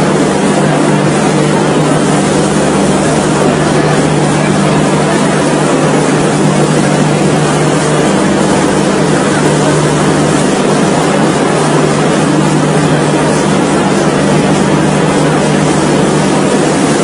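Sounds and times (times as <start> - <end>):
low steady hum: 0.0 - 17.0
water jetting from burst pipe: 0.0 - 17.0.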